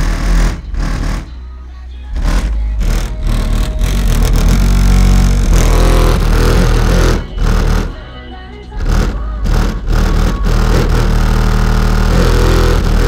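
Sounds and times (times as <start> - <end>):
bass-heavy music on car stereo: 0.0 - 13.0.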